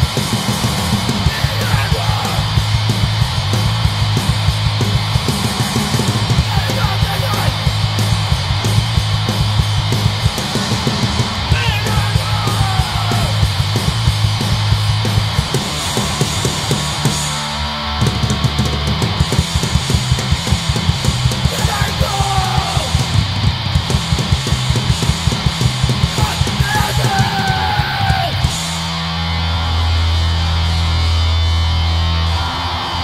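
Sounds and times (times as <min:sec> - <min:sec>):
bass guitar: 0:00.0 - 0:33.0
distorted electric guitar: 0:00.0 - 0:33.0
fast pounding drums: 0:00.0 - 0:33.0
punk band playing live: 0:00.0 - 0:33.0.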